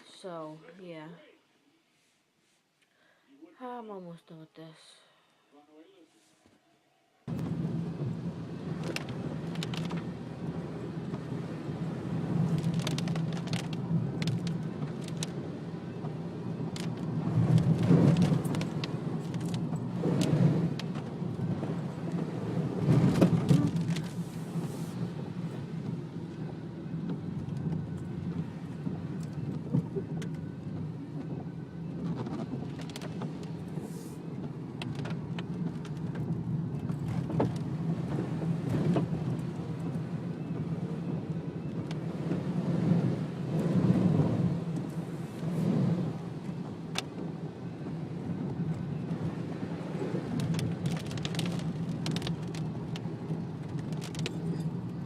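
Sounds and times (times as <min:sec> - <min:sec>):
engine and road hum: 0:00.0 - 0:55.0
rain and wet tyres hissing: 0:07.3 - 0:55.0.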